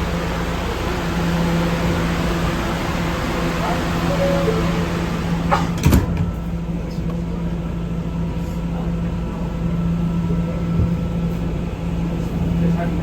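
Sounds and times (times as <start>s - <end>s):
subway car running noise: 0.0s - 13.0s.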